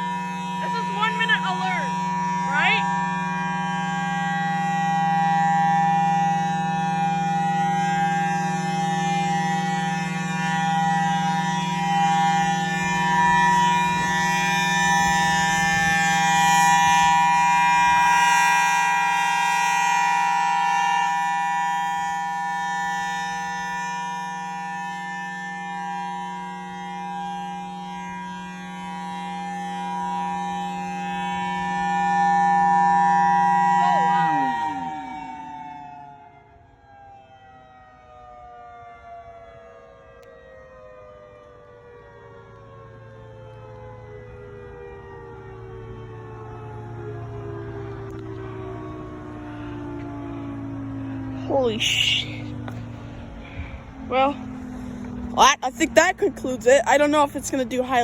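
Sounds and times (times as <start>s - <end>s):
outdoor warning siren two-tone chord: 0.0s - 58.0s.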